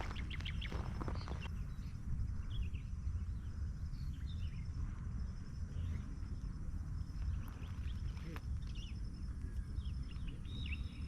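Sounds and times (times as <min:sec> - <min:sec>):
birds chirping: 0:00.0 - 0:11.0
low unsteady rumble: 0:00.0 - 0:11.0.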